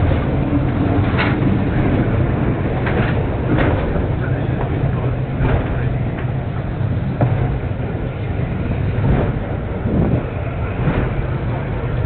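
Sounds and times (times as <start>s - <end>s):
funicular rumbling on rails: 0.0s - 12.0s.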